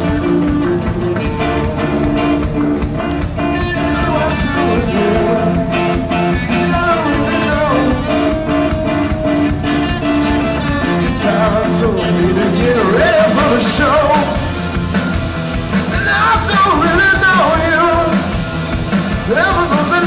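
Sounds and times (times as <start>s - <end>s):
electric guitars: 0.0s - 20.0s
live band playing amplified music: 0.0s - 20.0s.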